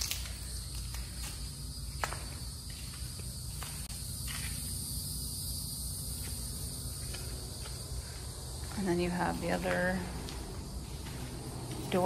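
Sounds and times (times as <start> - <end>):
footsteps on concrete: 0.0 - 4.9, 6.0 - 12.0
insects droning: 0.0 - 12.0.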